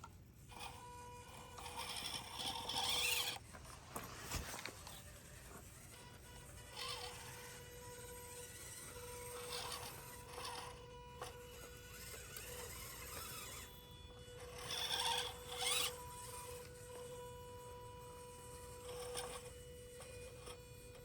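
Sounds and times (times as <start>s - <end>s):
small electric motor whirring: 0.0s - 21.0s.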